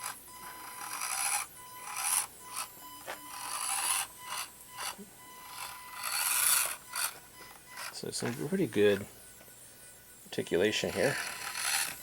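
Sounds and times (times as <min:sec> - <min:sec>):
small electric motor whirring: 0:00.0 - 0:09.5, 0:10.4 - 0:12.0.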